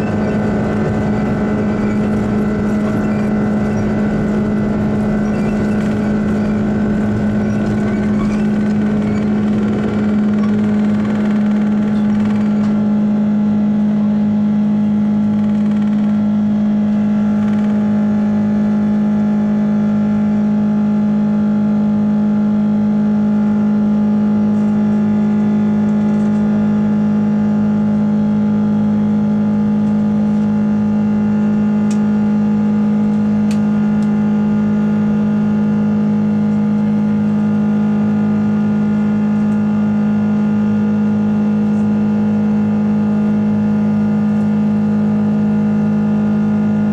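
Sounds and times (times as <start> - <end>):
jet engines droning in cabin: 0.0 - 46.9.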